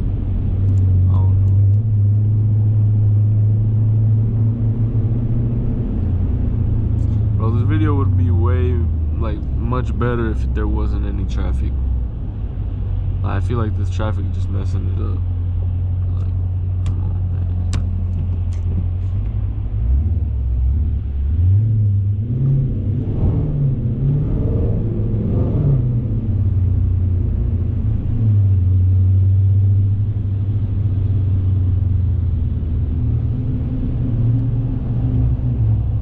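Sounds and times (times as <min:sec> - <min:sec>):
car engine drone: 0:00.0 - 0:36.0.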